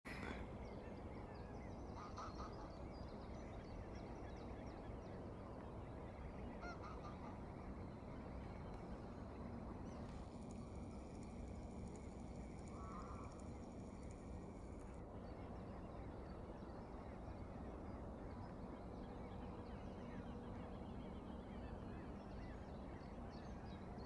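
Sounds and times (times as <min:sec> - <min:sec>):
geese honking faintly: 0:00.1 - 0:23.2
steady low hum: 0:00.1 - 0:24.0.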